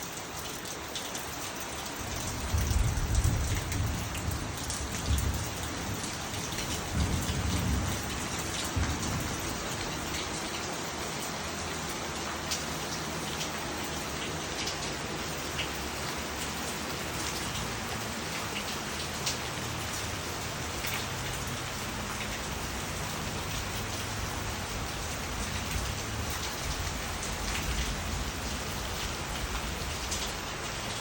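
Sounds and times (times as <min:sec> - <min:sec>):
steady rain pattering: 0:00.0 - 0:31.0.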